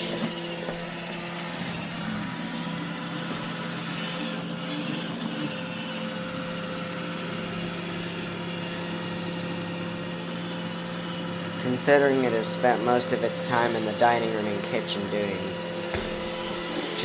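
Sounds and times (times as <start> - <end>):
robot vacuum humming: 0.0 - 17.0.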